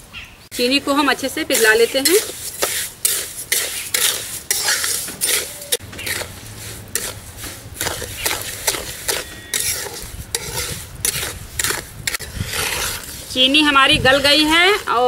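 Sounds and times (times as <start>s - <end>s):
metal spatula scraping metal pan: 1.5s - 15.0s.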